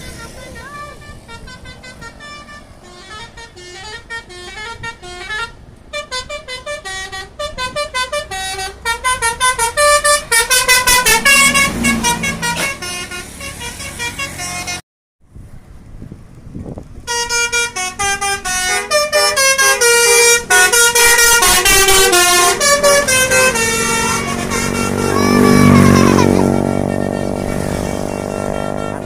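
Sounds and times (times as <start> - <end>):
multi-tone bus horn playing a tune: 0.0 - 14.8, 17.0 - 29.0.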